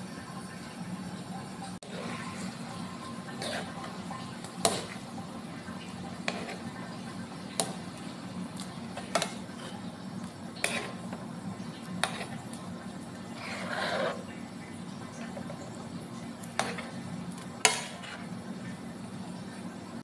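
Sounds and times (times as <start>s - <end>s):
egg bubbling in a pan: 0.0s - 20.0s
steady low hum: 0.0s - 20.0s.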